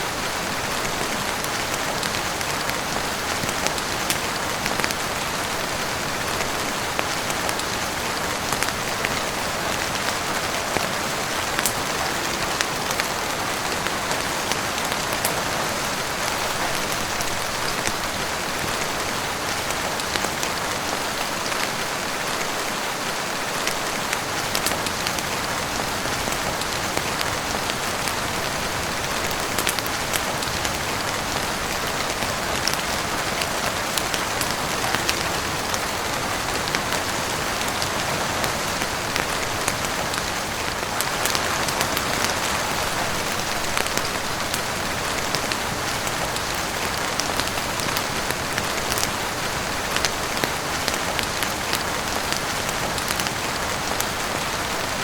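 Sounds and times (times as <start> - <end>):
heavy rain on roof and windows: 0.0 - 55.0
sharp rain ticks: 0.0 - 55.0.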